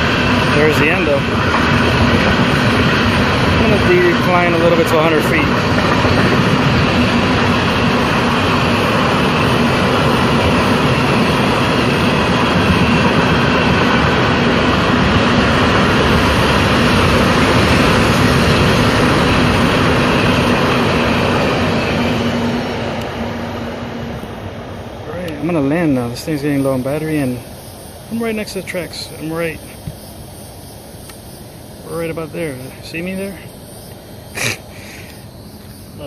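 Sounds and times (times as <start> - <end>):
train passing rumble: 0.0 - 36.0.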